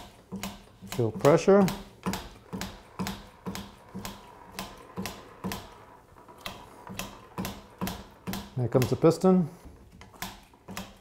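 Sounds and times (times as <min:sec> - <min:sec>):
hand lever pumping clicks: 0:00.0 - 0:09.2, 0:09.9 - 0:11.0.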